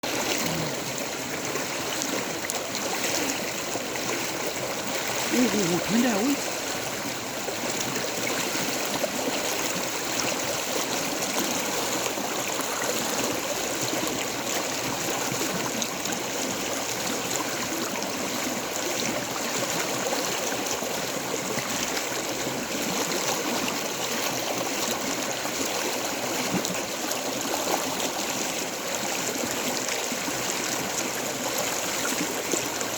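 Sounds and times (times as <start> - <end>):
stream water flowing: 0.0 - 32.9.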